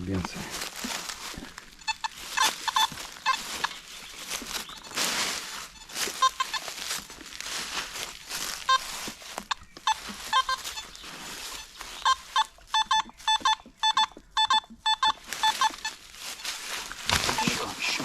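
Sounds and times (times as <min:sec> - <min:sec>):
rustling in leaf litter: 0:00.0 - 0:12.6, 0:15.2 - 0:18.0
metal detector beeps: 0:00.9 - 0:07.1, 0:08.4 - 0:18.0.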